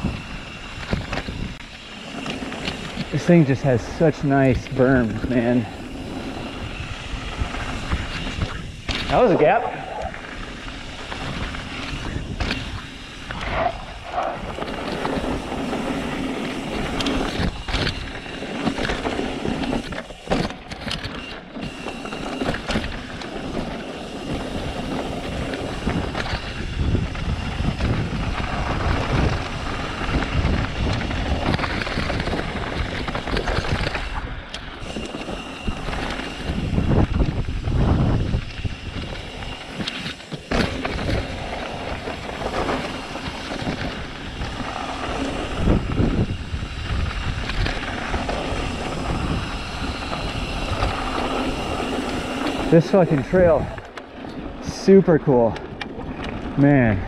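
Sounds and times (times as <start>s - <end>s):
bike rattling and knocking: 0.0s - 54.7s
bike tyres grinding over dirt: 0.0s - 57.0s
wind rumbling on microphone: 0.0s - 57.0s.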